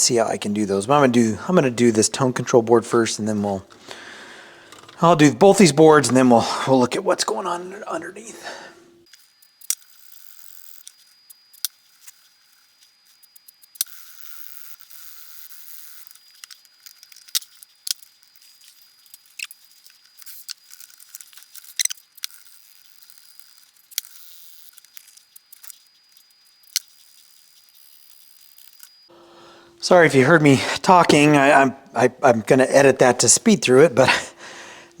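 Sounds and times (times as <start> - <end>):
faint high whine: 0.0 - 35.0.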